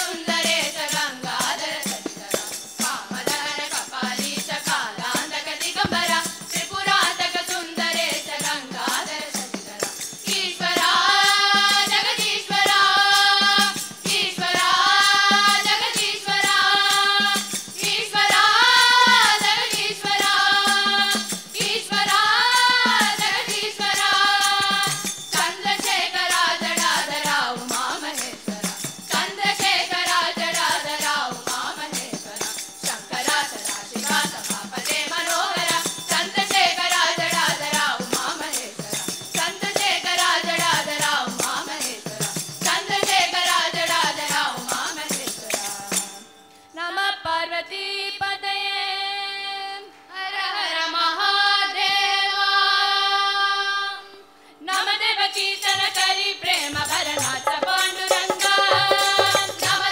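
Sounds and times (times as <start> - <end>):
hand drum: 0.0 - 46.1, 56.6 - 59.9
girls' chorus singing: 0.0 - 46.2, 46.8 - 59.9
jingling percussion: 0.0 - 47.0, 54.6 - 59.9.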